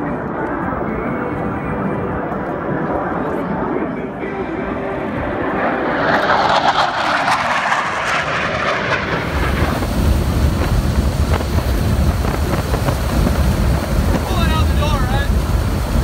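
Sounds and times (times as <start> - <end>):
jet passing low overhead: 0.0 - 16.0
wind and aircraft rumble: 0.0 - 16.0.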